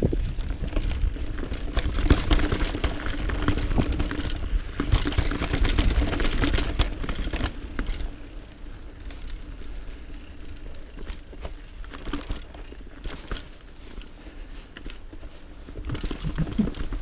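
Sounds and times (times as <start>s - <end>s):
bike rattling and clattering: 0.0s - 17.0s
tyres on dirt and stones: 0.0s - 17.0s
wind rumble on camera: 0.0s - 17.0s.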